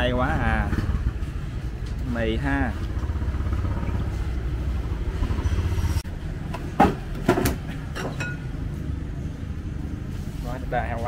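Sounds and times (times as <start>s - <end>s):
low rumble of passing traffic: 0.0s - 11.0s.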